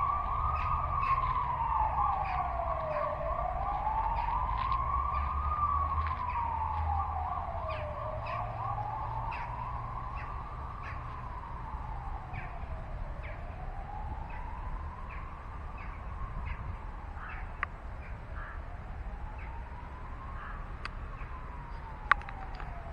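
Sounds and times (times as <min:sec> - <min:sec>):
wailing siren: 0:00.0 - 0:22.9.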